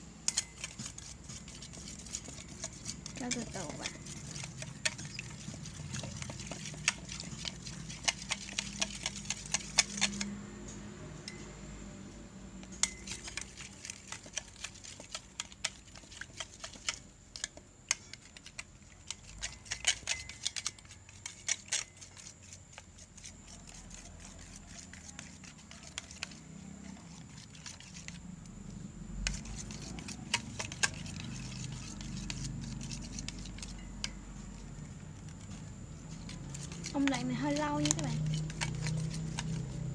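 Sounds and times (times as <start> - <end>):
slime stirring clicks and sticky taps: 0.2 - 10.3, 12.6 - 28.5, 29.2 - 39.9.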